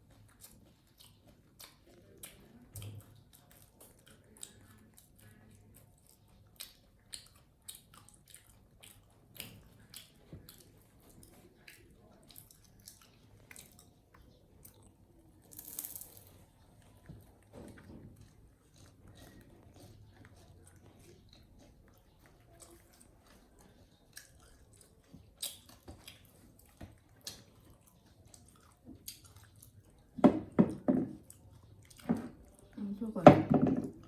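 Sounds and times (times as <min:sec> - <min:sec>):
monkey chewing food: 0:00.0 - 0:34.0.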